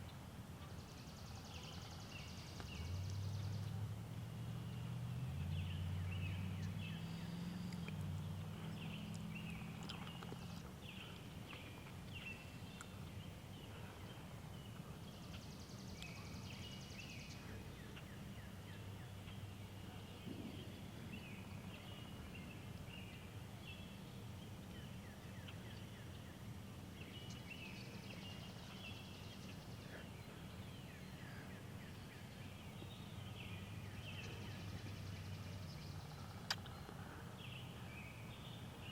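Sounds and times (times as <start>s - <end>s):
low steady hum: 0.0s - 38.9s
songbirds chirping and trilling: 0.0s - 38.9s.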